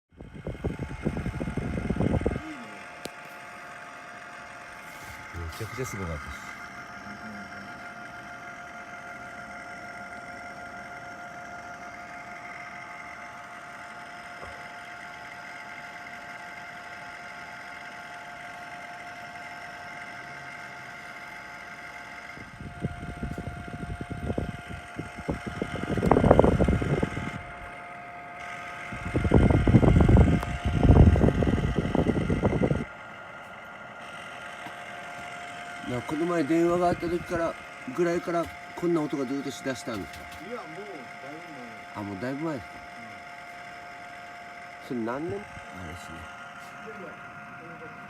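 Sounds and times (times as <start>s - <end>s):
motor rattling and grinding: 0.1s - 48.0s
air conditioner humming: 0.2s - 48.0s.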